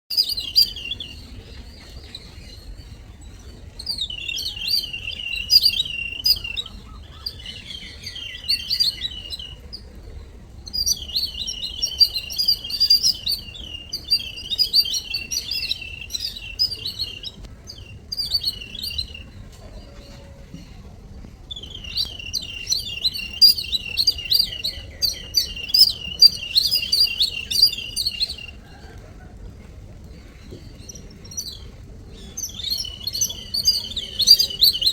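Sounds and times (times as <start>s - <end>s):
weaver birds chirping: 0.1s - 28.8s, 30.0s - 34.9s.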